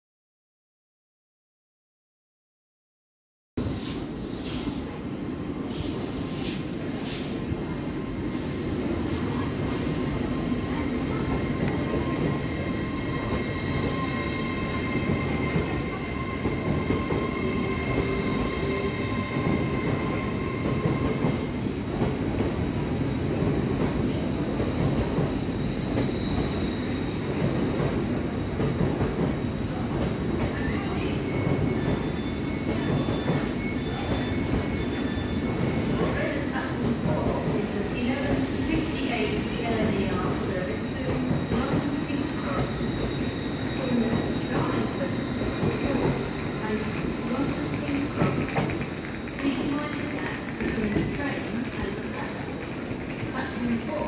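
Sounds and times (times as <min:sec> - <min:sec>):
train wheels rumbling on rail: 0:03.6 - 0:54.0.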